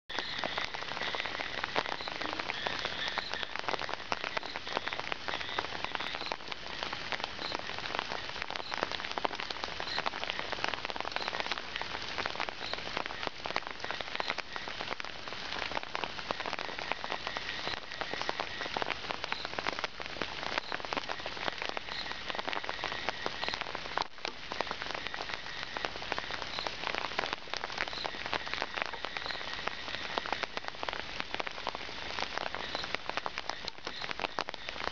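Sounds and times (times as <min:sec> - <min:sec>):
close raindrop hits: 0:00.1 - 0:34.9
steady rain falling: 0:00.1 - 0:34.9.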